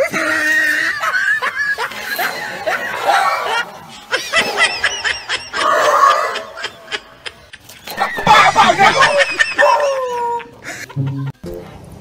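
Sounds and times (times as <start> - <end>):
high snickering laughter: 0.1 - 11.3.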